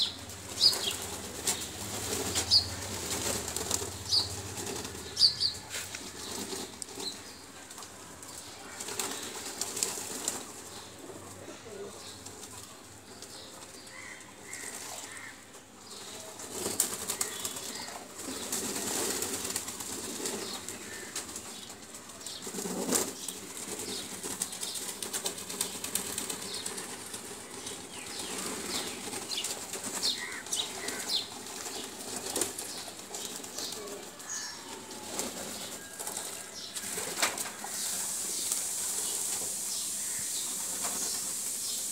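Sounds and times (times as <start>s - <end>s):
pigeons flapping wings: 0.2s - 10.8s, 16.3s - 41.8s.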